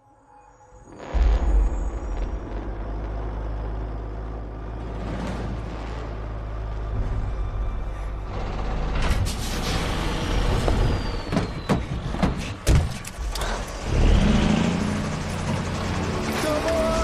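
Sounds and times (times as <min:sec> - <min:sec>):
low truck engine rumble: 0:00.8 - 0:17.0.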